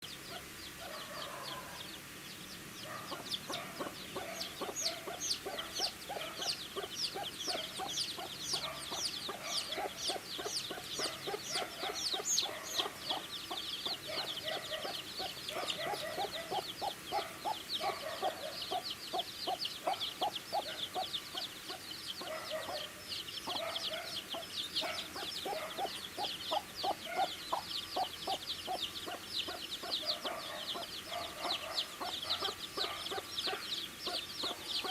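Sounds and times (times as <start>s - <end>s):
baby chicks cheeping: 0.0s - 34.9s.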